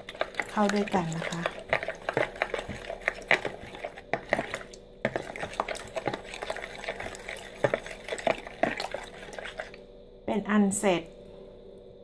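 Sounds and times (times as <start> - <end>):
spoon scraping a bowl: 0.0 - 9.8.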